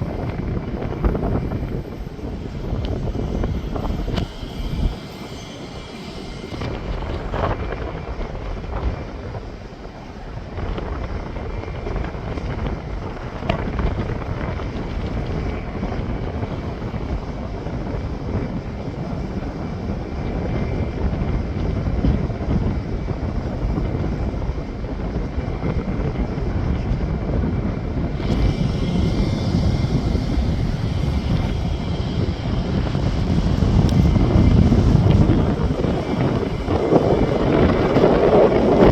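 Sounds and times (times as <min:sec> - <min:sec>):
aircraft engine noise: 0:00.0 - 0:38.9
wind on microphone: 0:00.0 - 0:38.9.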